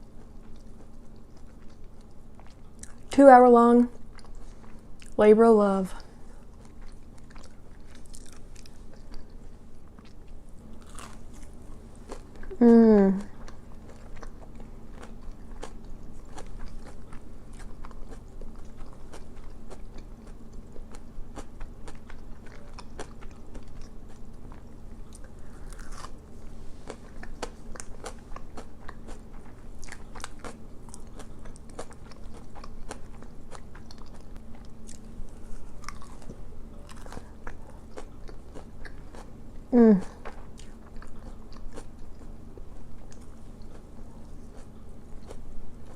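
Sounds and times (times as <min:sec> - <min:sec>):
crunching and chewing food: 0:00.0 - 0:45.9
faint steady hum: 0:00.0 - 0:45.9.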